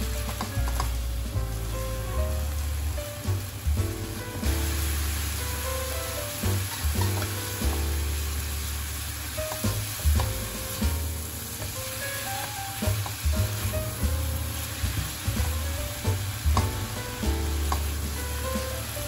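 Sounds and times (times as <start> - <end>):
food sizzling in a wok: 0.0 - 19.0.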